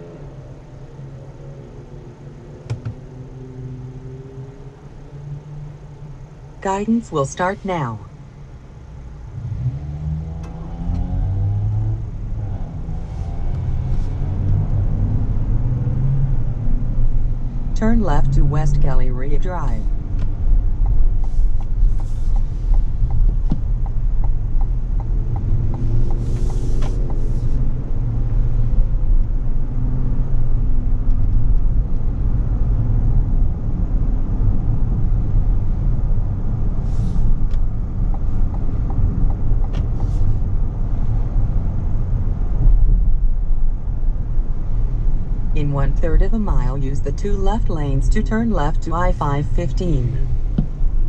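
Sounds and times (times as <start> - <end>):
car cabin road and engine rumble: 0.0 - 51.0.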